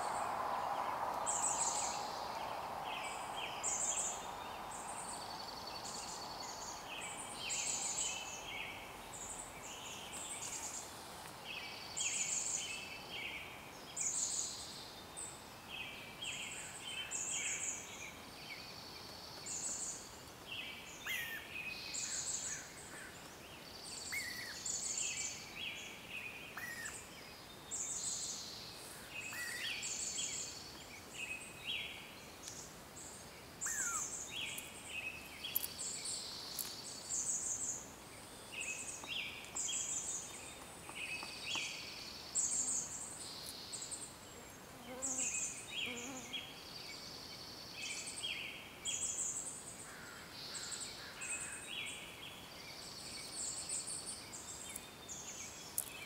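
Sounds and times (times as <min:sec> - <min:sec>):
faint hiss: 0:00.0 - 0:56.0
songbirds singing: 0:00.0 - 0:56.0.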